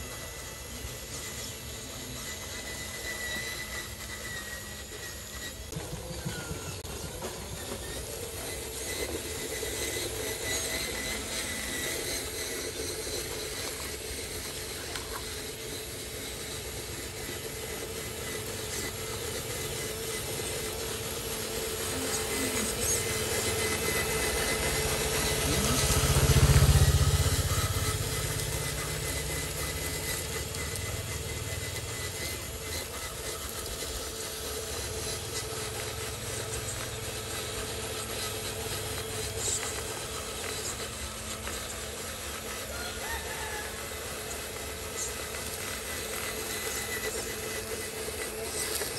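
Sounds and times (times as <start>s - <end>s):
toy truck motor whining: 0.0s - 48.9s.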